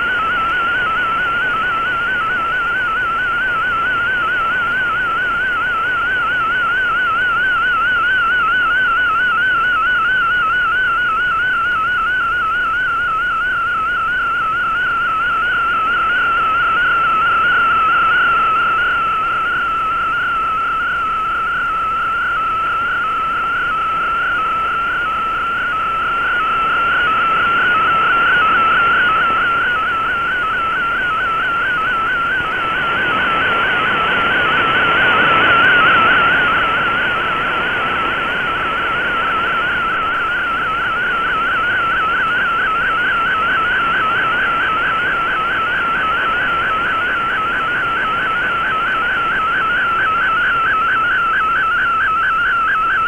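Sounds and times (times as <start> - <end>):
warbling radio data tone: 0.0 - 53.0.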